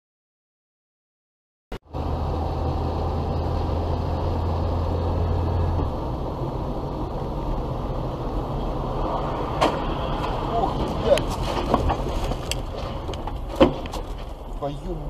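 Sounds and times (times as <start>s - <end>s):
car engine and road noise: 1.8s - 15.0s.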